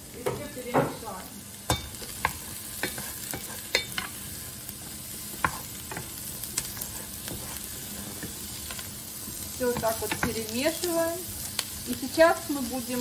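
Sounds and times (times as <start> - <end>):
mushrooms sizzling in frying pan: 0.0 - 13.0.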